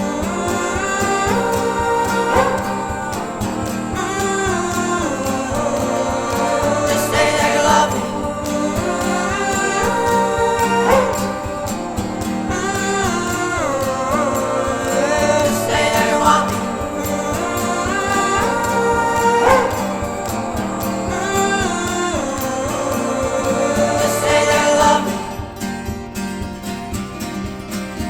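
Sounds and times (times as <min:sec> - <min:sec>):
person singing sliding notes: 0:00.0 - 0:25.6
acoustic guitar: 0:00.0 - 0:28.0.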